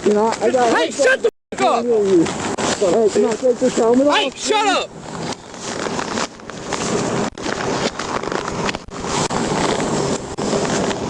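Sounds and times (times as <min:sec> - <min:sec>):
wind rushing over microphone: 0:01.7 - 0:11.0.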